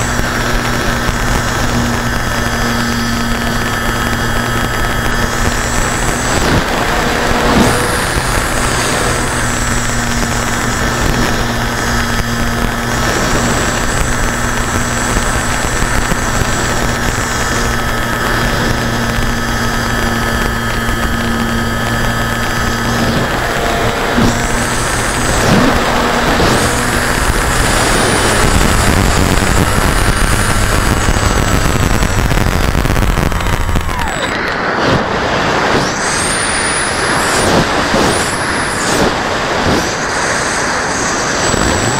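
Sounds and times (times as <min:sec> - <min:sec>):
model aircraft motor and propeller: 0:00.0 - 0:41.9
wind noise: 0:00.0 - 0:41.9.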